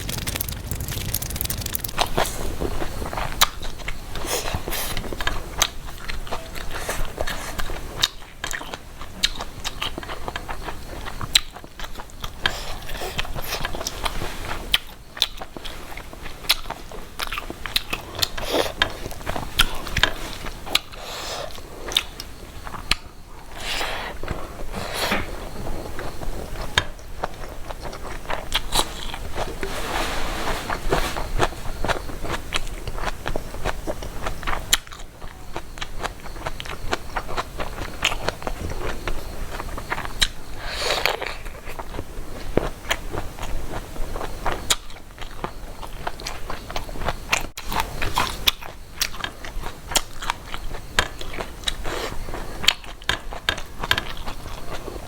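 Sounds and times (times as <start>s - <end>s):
person chewing food: 0.0s - 29.8s, 30.6s - 54.9s.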